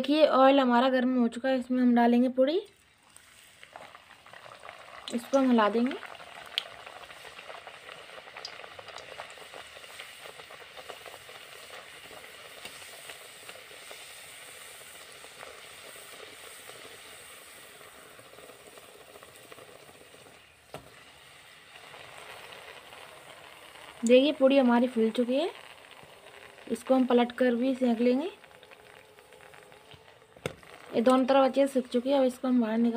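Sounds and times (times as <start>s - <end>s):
bread sizzling in hot oil: 2.8s - 32.9s.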